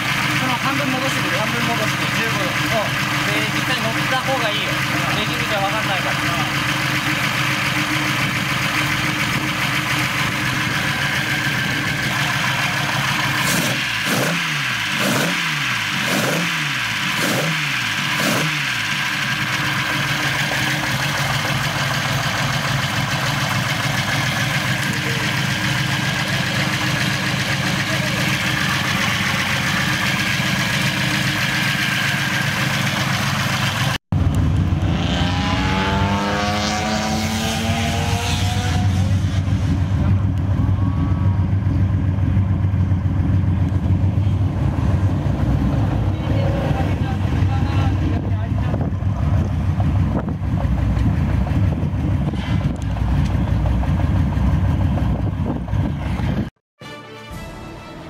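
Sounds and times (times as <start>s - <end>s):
car engine idling and revving: 0.0s - 56.6s.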